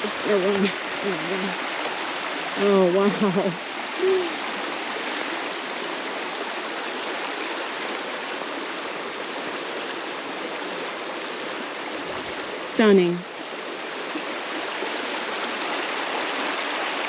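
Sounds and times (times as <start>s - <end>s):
water rushing over rapids: 0.0s - 17.0s.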